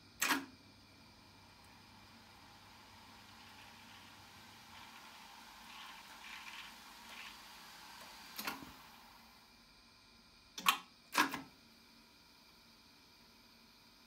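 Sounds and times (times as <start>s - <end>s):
tape machine running faintly: 0.0s - 14.0s.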